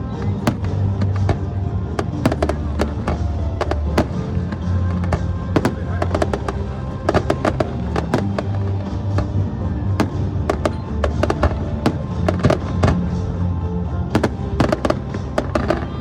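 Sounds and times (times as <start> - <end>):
fireworks bangs and crackles: 0.0 - 16.0
music with low sustained notes: 0.0 - 16.0.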